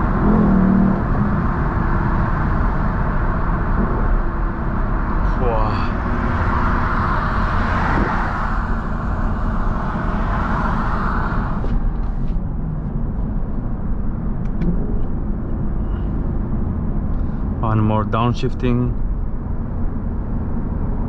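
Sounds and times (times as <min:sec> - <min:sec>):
car engine at highway speed: 0:00.0 - 0:21.0
road and wind noise: 0:00.0 - 0:21.0.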